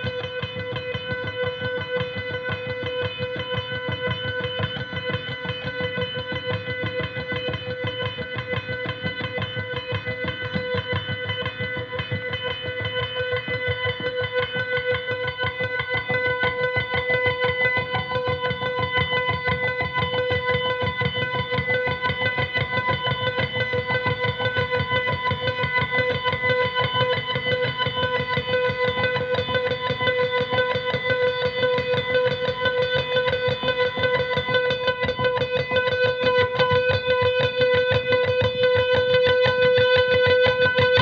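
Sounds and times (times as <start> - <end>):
electric guitar droning noise: 0.0 - 41.0.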